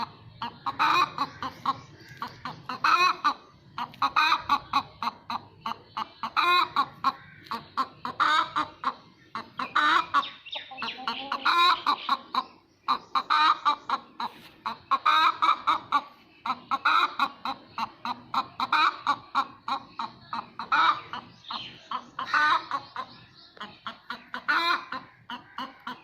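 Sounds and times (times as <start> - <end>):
hen cackling: 0.0 - 26.0.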